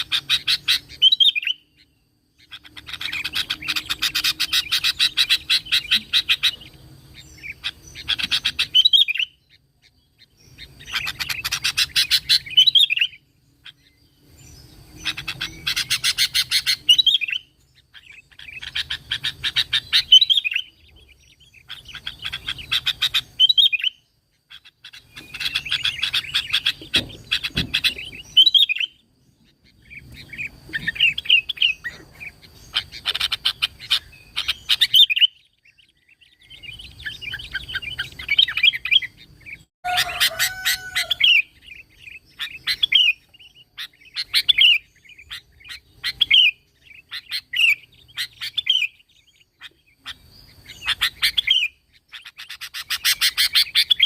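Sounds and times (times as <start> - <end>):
bulbul chattering song: 0.0 - 54.0.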